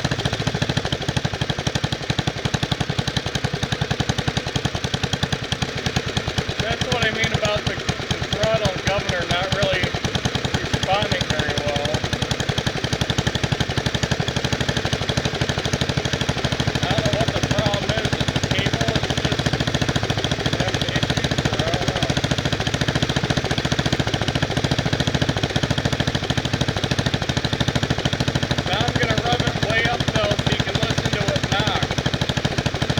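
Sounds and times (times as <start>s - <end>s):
single-cylinder engine running: 0.0s - 32.9s.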